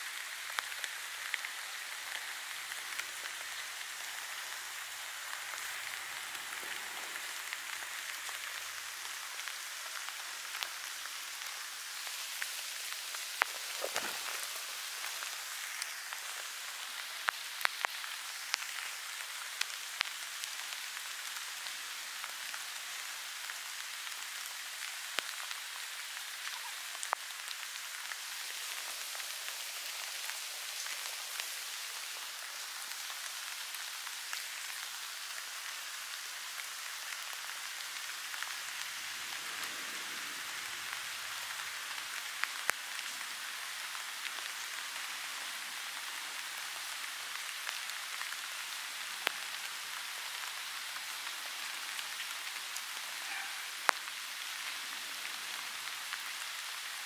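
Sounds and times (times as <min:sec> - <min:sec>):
rain falling on grass: 0:00.0 - 0:57.0
raindrop ticks: 0:00.1 - 0:56.9.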